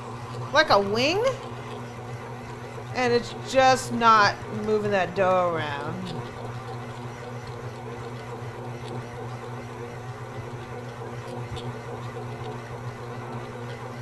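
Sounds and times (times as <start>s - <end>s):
stand mixer motor humming: 0.0s - 14.0s.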